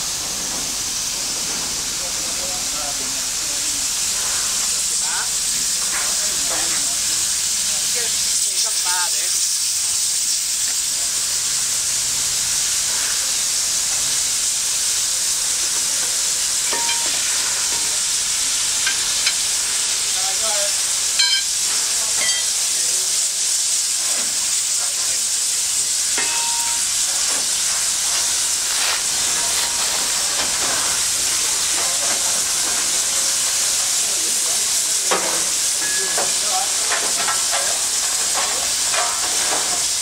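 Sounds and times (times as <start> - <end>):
hiss of escaping steam: 0.0 - 40.0.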